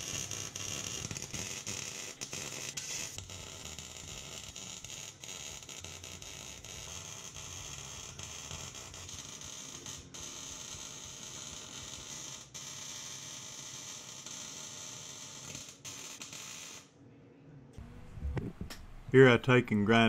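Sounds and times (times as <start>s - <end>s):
welder arc crackling and hissing: 0.0s - 14.4s, 15.0s - 16.9s.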